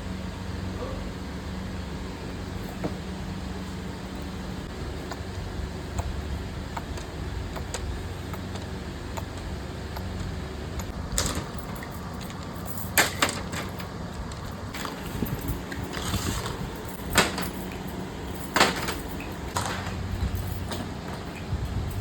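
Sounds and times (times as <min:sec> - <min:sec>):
factory machinery humming: 0:00.0 - 0:22.0.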